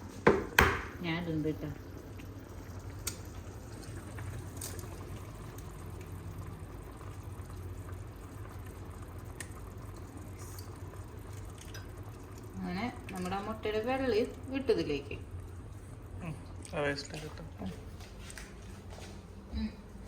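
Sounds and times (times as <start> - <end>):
soup bubbling in a pot: 0.0 - 18.6.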